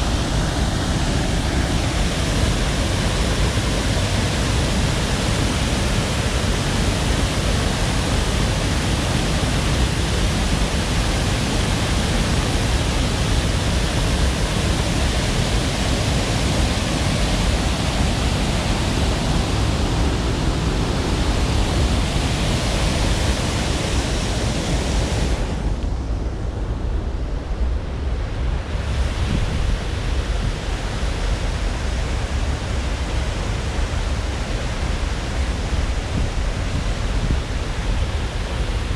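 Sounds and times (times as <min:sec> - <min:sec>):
running water rushing: 0:00.0 - 0:25.8, 0:28.7 - 0:38.9.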